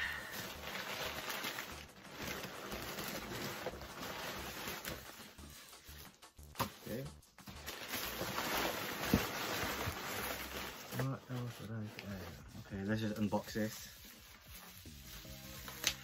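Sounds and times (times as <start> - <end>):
packing paper rustling: 0.0 - 16.0.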